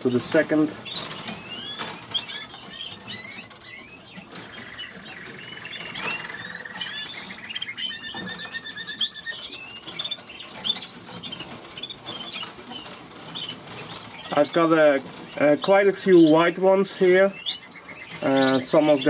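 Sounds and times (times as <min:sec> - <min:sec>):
canaries singing and chirping: 0:00.0 - 0:19.0
wings fluttering: 0:00.4 - 0:16.0
rapid bird trills: 0:00.8 - 0:19.0.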